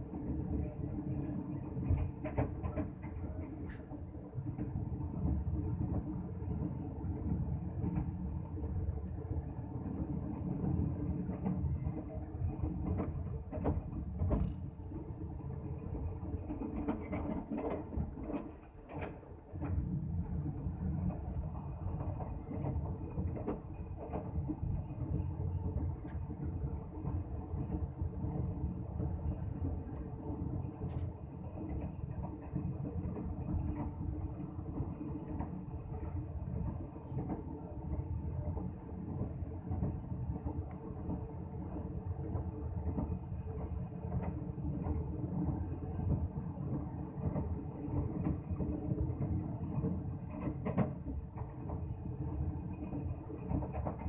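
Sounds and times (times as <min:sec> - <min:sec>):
clicks and knocks of train: 0:00.0 - 0:54.0
train wheels rumbling on track: 0:00.0 - 0:54.0.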